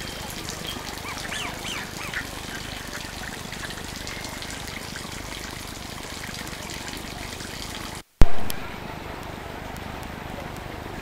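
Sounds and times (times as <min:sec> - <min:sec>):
water trickling into a pond: 0:00.0 - 0:11.0.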